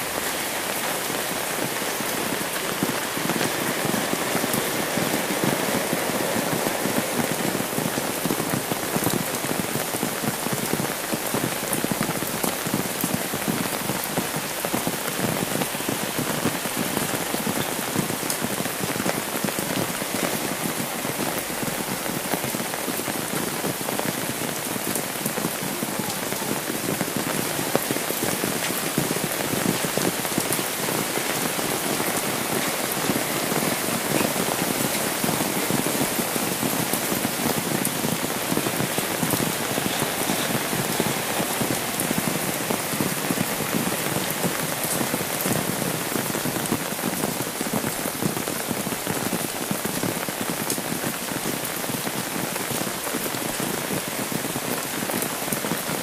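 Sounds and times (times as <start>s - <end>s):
rain falling on wet road: 0.0s - 56.0s
rain pattering on umbrella: 0.0s - 56.0s.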